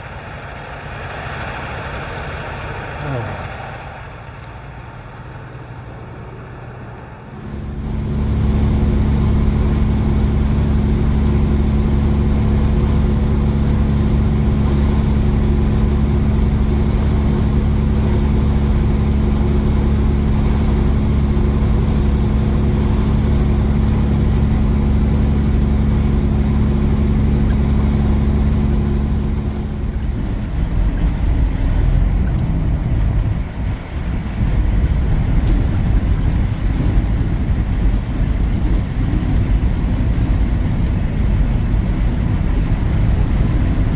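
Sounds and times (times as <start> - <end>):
diesel engine running: 0.0 - 43.9
uneven low rumble: 0.0 - 43.9.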